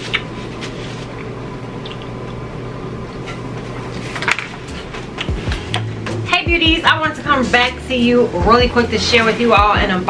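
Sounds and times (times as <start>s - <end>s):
room noise hum and hiss: 0.0s - 10.0s.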